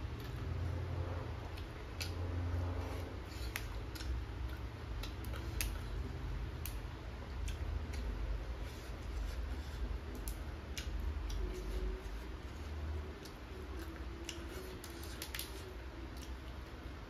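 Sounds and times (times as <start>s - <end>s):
person chewing with mouth clicks: 1.5s - 6.1s, 7.3s - 16.7s.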